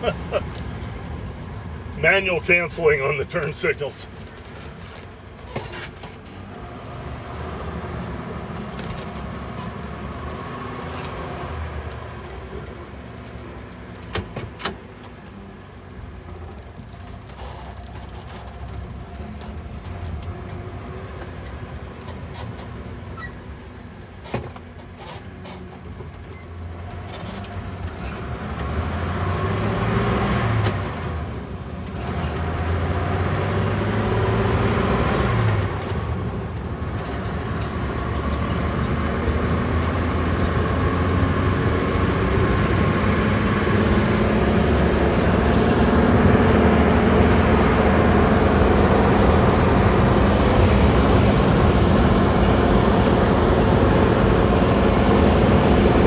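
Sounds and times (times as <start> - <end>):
truck engine and road noise: 0.0 - 56.0.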